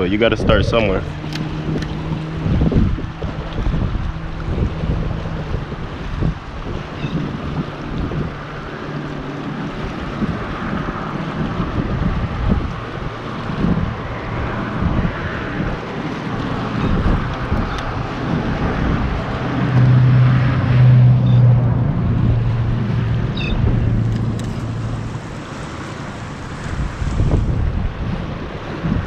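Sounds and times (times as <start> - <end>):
low engine hum: 0.0 - 29.0
wind buffeting microphone: 0.0 - 29.0.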